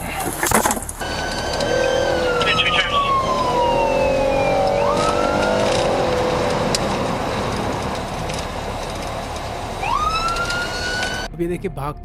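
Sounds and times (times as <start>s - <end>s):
car engine: 0.0s - 11.3s
road noise: 0.0s - 11.6s
police siren wailing: 1.0s - 11.3s.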